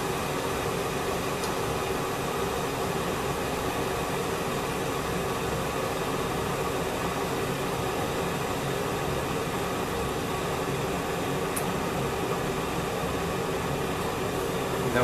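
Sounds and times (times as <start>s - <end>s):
electric kettle heating water: 0.0s - 15.0s.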